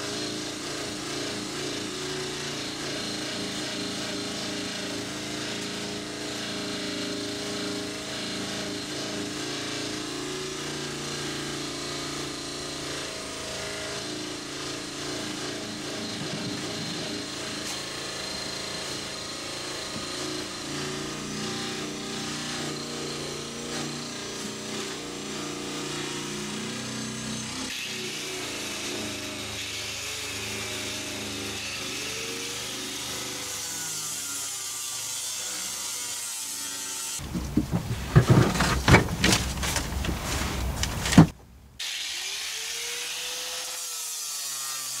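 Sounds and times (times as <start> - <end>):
power grinder sanding fiberglass: 0.0 - 45.0.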